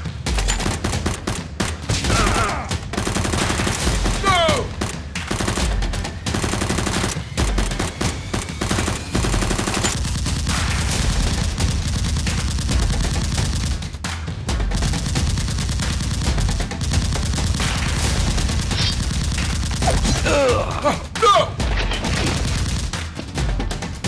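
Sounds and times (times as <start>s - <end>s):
machine-gun fire bursts: 0.0s - 20.8s, 22.0s - 23.7s.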